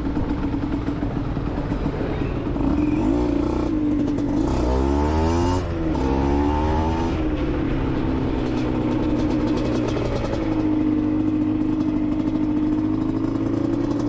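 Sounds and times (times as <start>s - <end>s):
two-stroke engine revving: 0.0s - 7.2s, 9.1s - 14.0s.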